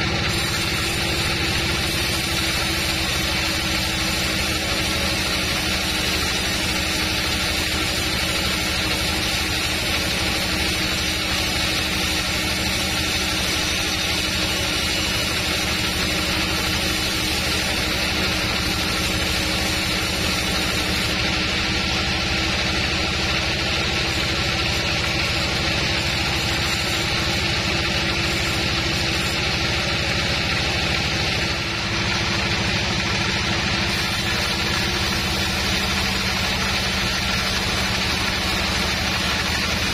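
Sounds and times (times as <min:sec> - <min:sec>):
band saw drone: 0:00.0 - 0:39.9
saw blade cutting log: 0:00.0 - 0:39.9.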